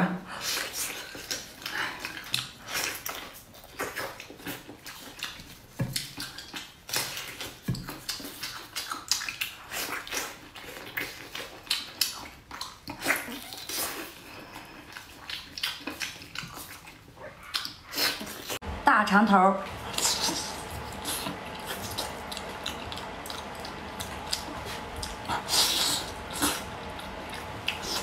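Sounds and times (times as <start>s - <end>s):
wet chewing of meat: 0.4s - 18.6s, 19.7s - 28.0s
lip smacks and squelches: 0.5s - 18.6s, 19.8s - 28.0s.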